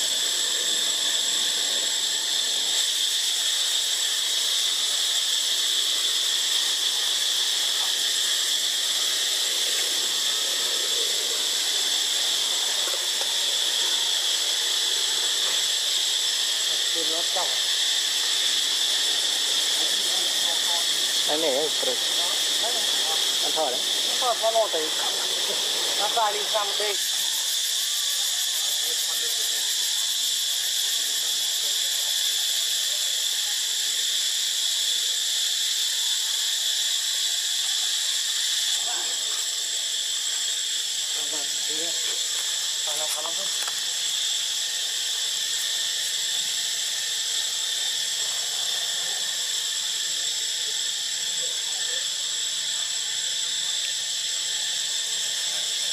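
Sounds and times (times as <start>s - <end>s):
insect chorus: 0.0s - 55.9s.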